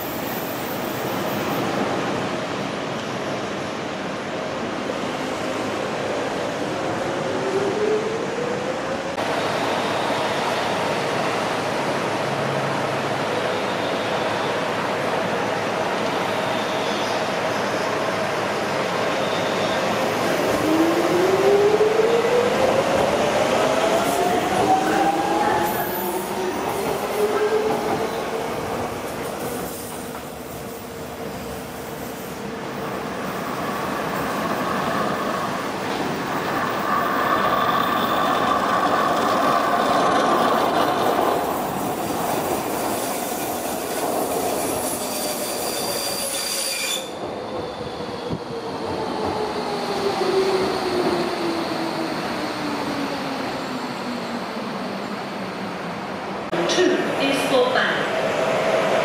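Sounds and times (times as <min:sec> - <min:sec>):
train whine on curved track: 0:00.0 - 0:59.0.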